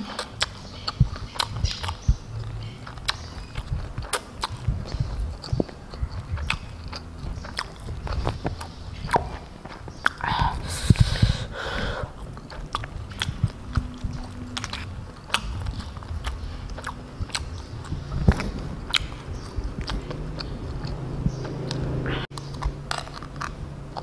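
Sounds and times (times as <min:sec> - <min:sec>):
chewing and mouth sounds: 0:00.0 - 0:24.0
wet lip and tongue clicks: 0:00.0 - 0:24.0.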